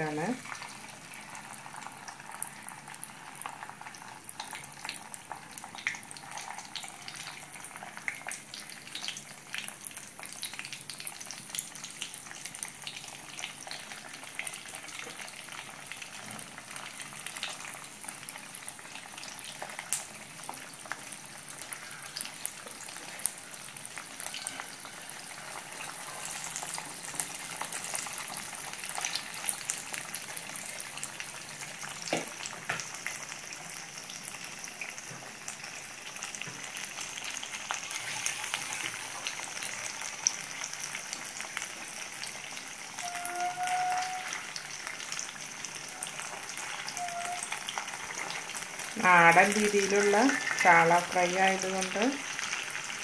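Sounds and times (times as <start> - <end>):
fish sizzling in oil: 0.0 - 53.0.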